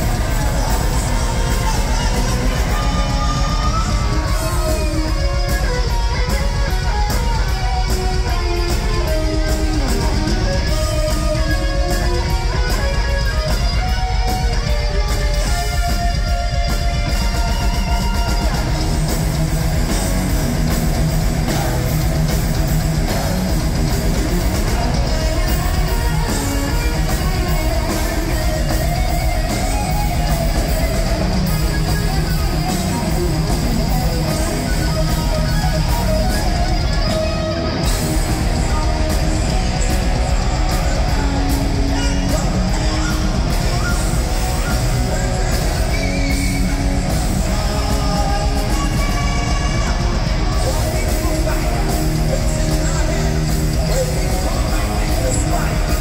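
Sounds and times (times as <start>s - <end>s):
distorted electric guitar: 0.0s - 56.0s
live heavy metal band: 0.0s - 56.0s.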